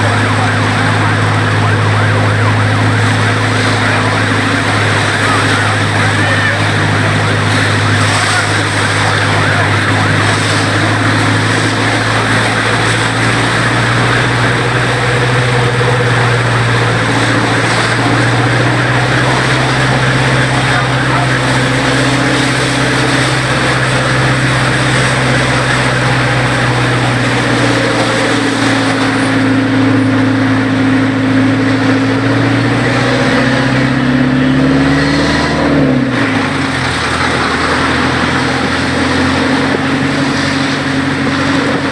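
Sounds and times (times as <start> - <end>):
road and traffic noise: 0.0 - 41.9
vehicle engine running: 0.0 - 41.9.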